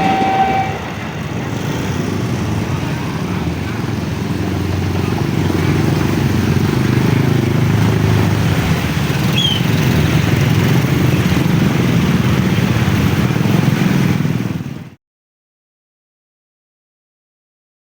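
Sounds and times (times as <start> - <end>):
vehicle engines in traffic: 0.0 - 15.0.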